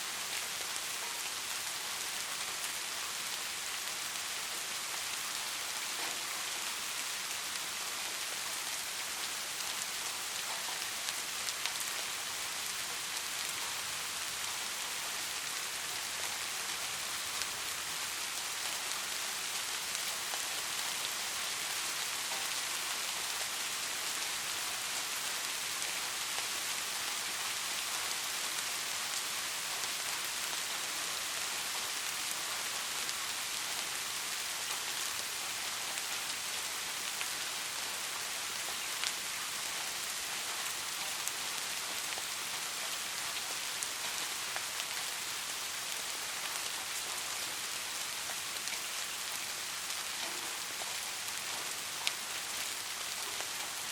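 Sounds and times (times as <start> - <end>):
soft rainfall: 0.0 - 53.9.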